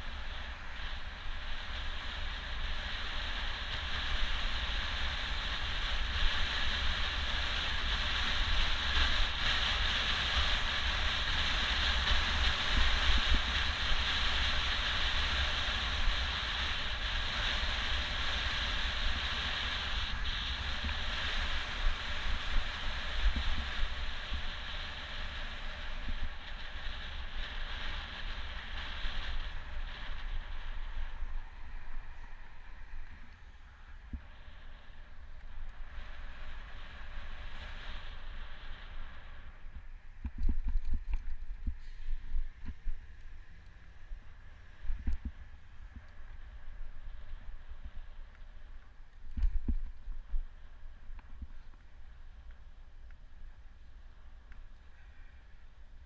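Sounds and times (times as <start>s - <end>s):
wind buffeting microphone: 0.0s - 52.5s.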